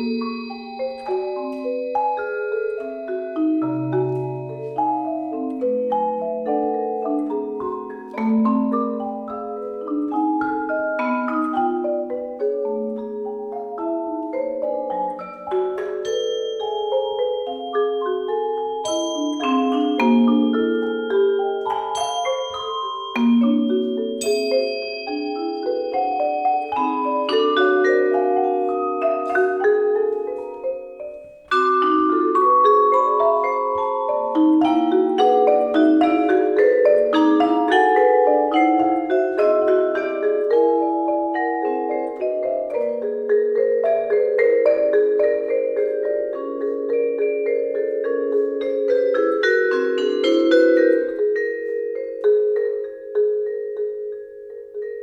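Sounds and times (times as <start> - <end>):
vibraphone and marimbas playing: 0.0 - 55.0.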